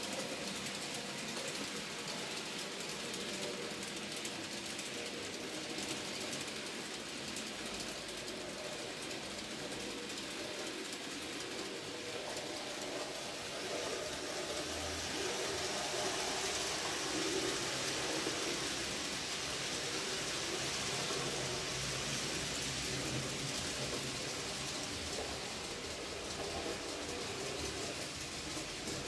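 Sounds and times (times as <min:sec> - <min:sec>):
model train wheels rattling on rail: 0:00.0 - 0:29.0.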